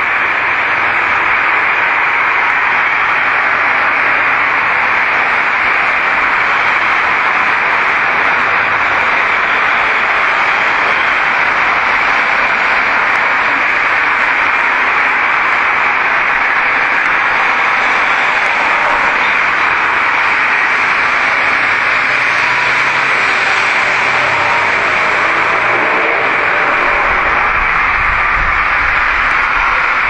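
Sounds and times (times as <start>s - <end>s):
loud recording hiss: 0.0s - 30.0s.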